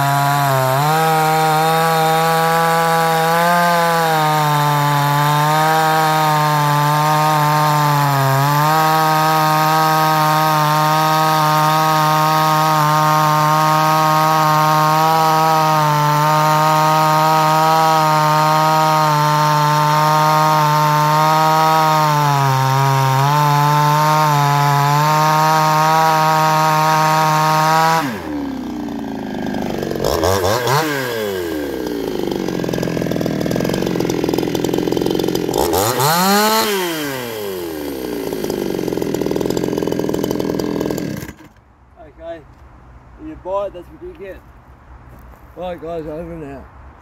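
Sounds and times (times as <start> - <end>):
chainsaw cutting log: 0.0 - 41.6
chainsaw idling: 0.0 - 41.6
chainsaw revving: 0.0 - 41.6.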